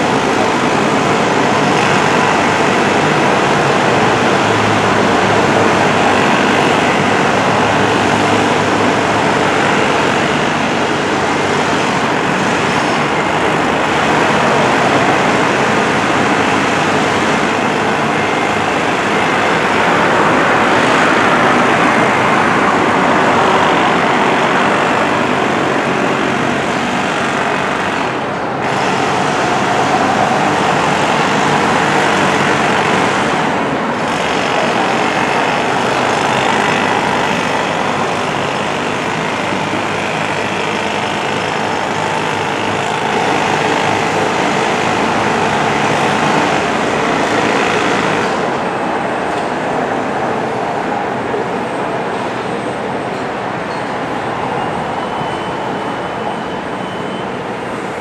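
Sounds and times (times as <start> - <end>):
loud outdoor background din: 0.0 - 58.0.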